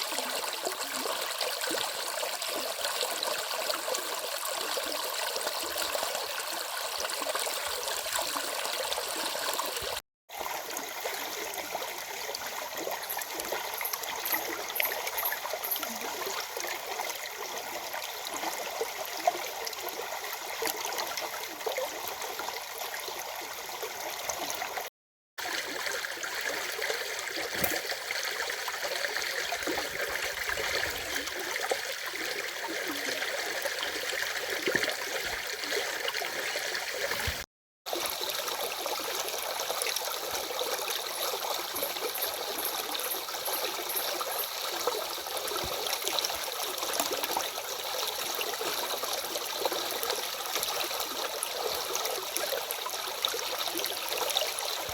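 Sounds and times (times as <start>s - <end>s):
stream water rushing and babbling: 0.0s - 54.9s.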